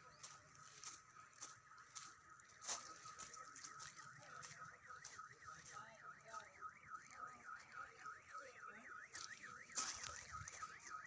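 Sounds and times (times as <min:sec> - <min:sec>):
vehicle alarm warbling: 0:00.0 - 0:11.0.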